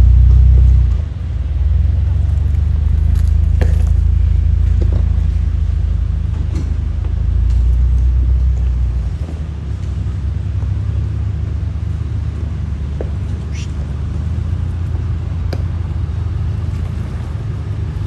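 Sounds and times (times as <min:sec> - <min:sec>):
engine running at low speed: 0:00.0 - 0:18.0.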